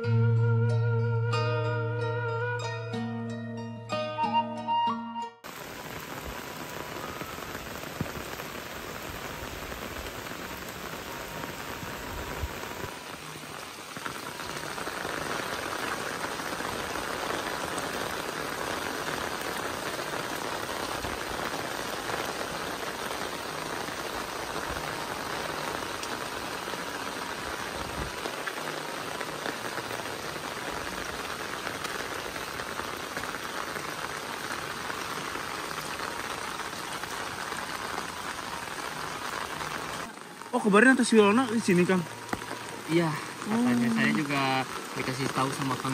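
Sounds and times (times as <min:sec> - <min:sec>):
heavy rain falling: 0:05.4 - 0:45.9.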